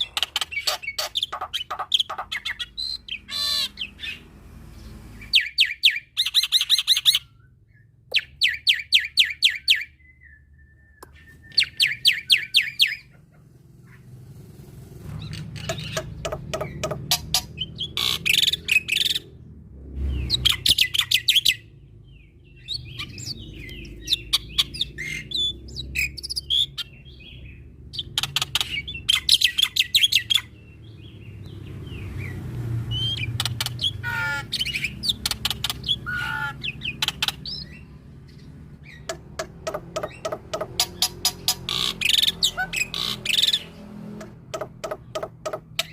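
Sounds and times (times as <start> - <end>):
bird singing varied song: 0.0 - 14.3, 15.0 - 45.9.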